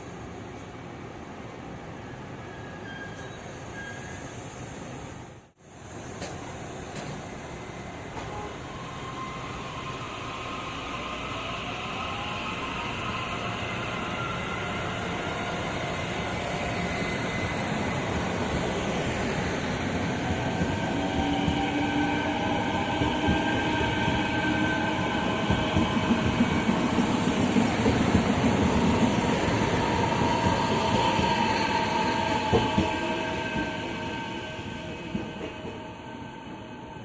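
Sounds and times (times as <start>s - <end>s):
train passing: 5.7s - 37.0s.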